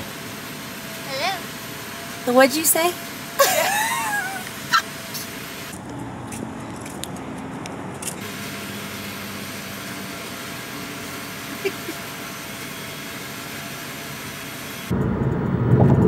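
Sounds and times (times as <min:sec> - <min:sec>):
vehicle idling hum: 0:00.0 - 0:16.0.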